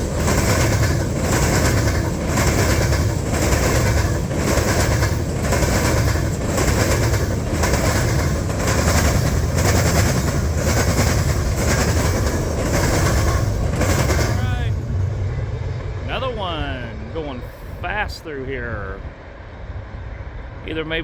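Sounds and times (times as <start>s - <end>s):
train wheel clatter: 0.0s - 16.8s
freight train rumbling past: 0.0s - 21.0s.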